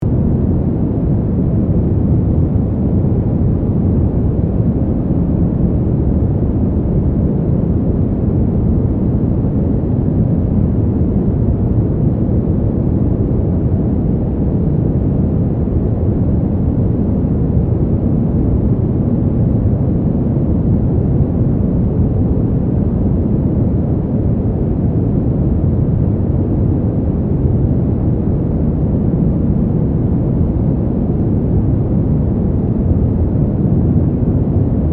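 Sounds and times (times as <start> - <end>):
muffled low white noise rumble: 0.0 - 34.9.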